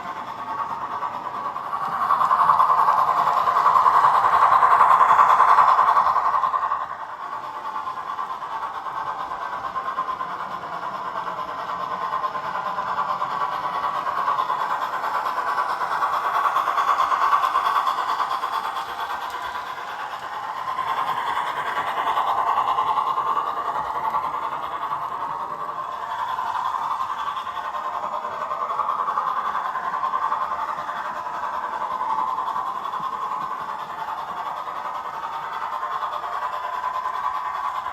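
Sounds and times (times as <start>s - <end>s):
model locomotive rolling rattle: 0.0s - 37.9s.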